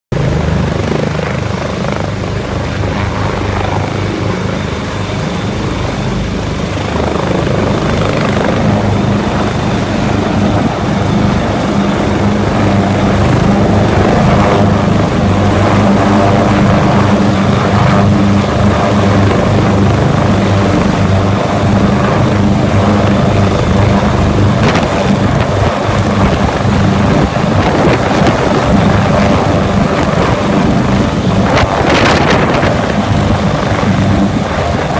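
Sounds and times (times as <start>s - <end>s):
helicopter rotor beating: 0.1s - 34.9s
turbine whine: 0.2s - 34.9s.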